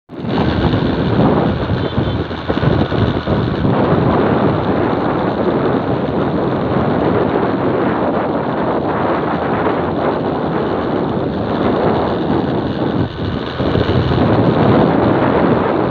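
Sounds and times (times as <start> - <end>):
wind rushing on microphone: 0.1 - 15.9.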